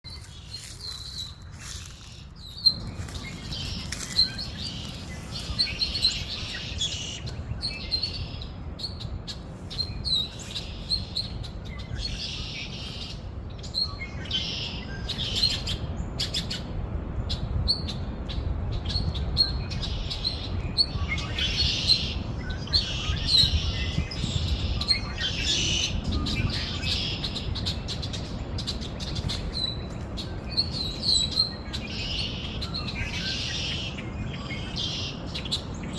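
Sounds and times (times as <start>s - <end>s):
small birds chirping: 0.1s - 16.7s, 17.3s - 35.9s.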